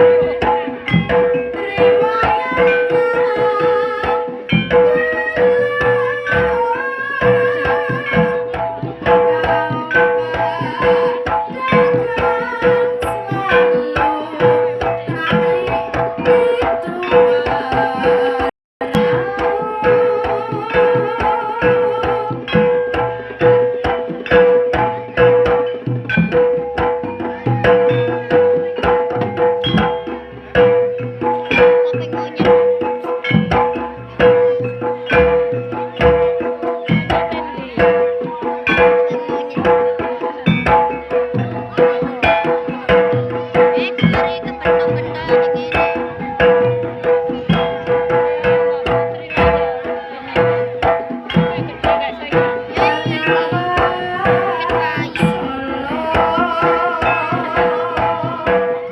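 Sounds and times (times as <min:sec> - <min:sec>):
rapid hand drum strokes: 0:00.0 - 0:58.9
wavering melody line: 0:00.0 - 0:58.9.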